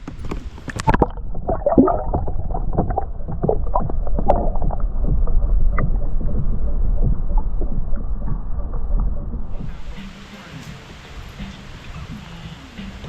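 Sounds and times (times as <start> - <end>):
water splashing: 0.0 - 11.2
wind rumble on microphone: 0.0 - 13.0.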